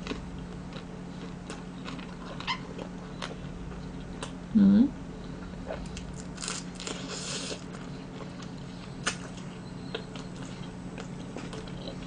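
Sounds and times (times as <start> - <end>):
person chewing food: 0.0 - 4.4, 5.5 - 12.0.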